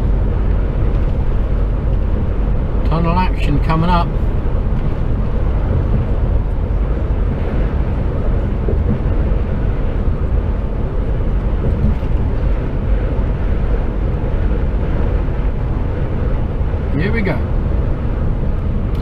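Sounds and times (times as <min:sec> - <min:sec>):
road noise: 0:00.0 - 0:19.0
truck engine rumbling: 0:00.0 - 0:19.0.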